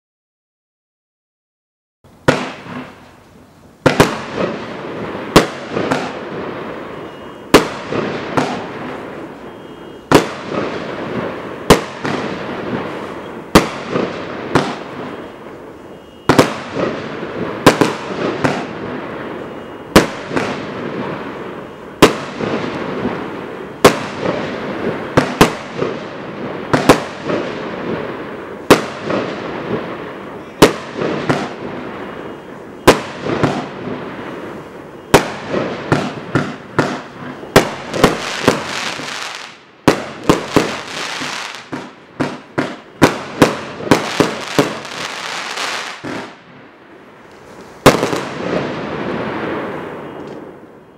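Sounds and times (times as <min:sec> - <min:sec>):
fireworks crackling: 0:02.1 - 0:50.9
fireworks sharp bangs: 0:02.2 - 0:03.2, 0:03.8 - 0:50.9.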